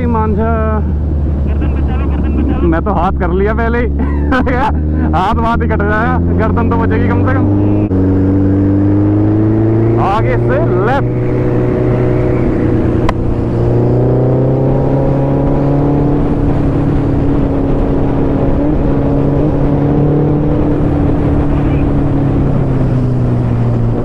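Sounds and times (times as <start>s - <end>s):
motorcycle engine cruising: 0.0s - 24.0s
wind rushing over microphone: 4.8s - 24.0s.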